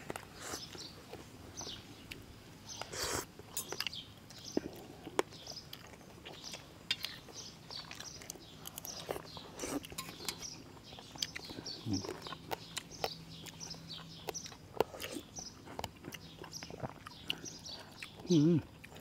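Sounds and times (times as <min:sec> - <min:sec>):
chewing and lip-smacking: 0:00.0 - 0:19.0.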